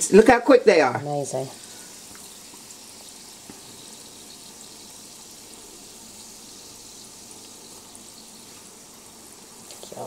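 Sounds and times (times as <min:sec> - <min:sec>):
faint crackle of frying: 0:00.0 - 0:10.0
oil sizzling and bubbling: 0:00.0 - 0:10.0.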